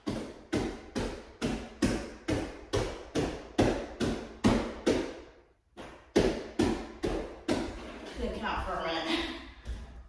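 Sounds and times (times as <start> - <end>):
rhythmic thuds on floor: 0.0 - 10.0.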